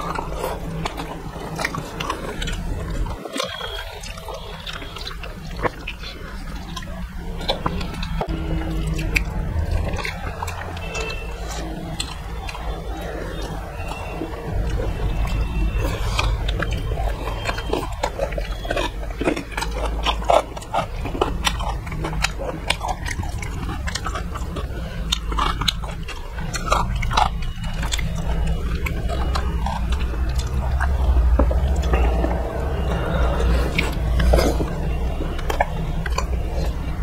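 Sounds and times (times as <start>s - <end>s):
chewing and lip-smacking: 0.0s - 37.0s
mouth clicks: 0.0s - 37.0s
steady low hum: 0.0s - 37.0s.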